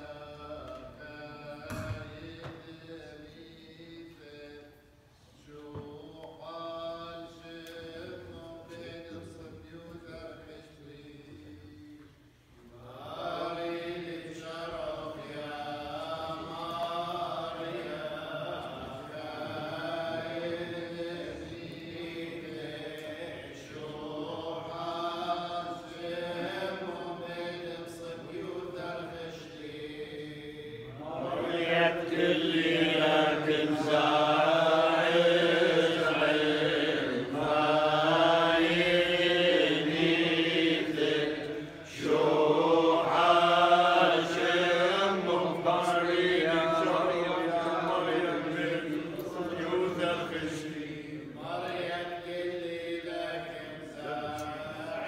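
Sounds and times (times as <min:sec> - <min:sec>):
group chanting prayers: 0:00.0 - 0:55.0.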